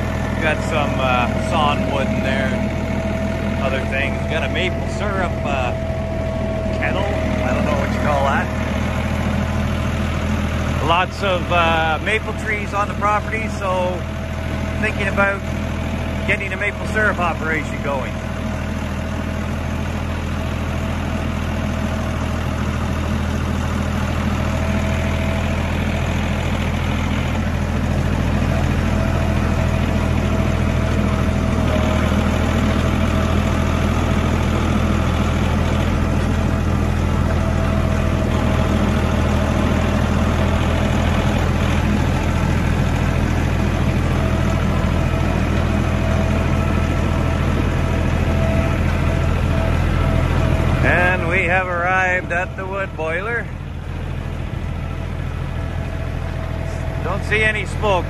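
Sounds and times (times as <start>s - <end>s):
steady whine: 0.0s - 20.1s, 21.1s - 58.0s
tractor diesel engine running: 0.0s - 58.0s.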